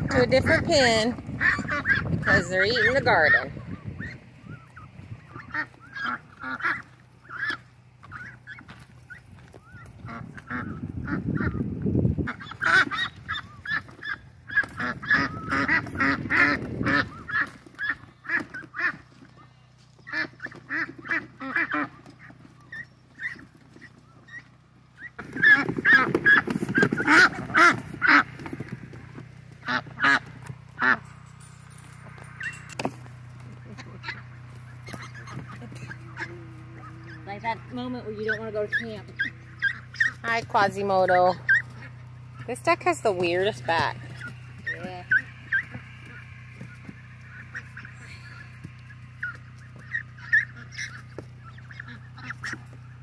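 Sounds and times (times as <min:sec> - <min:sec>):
ducks quacking: 0:00.0 - 0:31.1, 0:33.3 - 0:53.0
steady low hum: 0:00.0 - 0:53.0.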